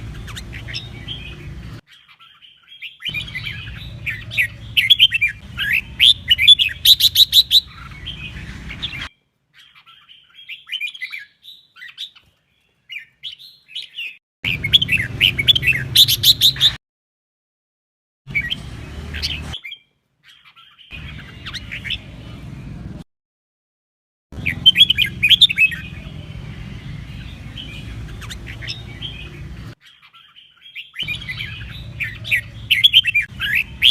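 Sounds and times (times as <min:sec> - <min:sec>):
bird singing with trills: 0:00.0 - 0:16.8, 0:18.3 - 0:22.7, 0:24.4 - 0:33.9.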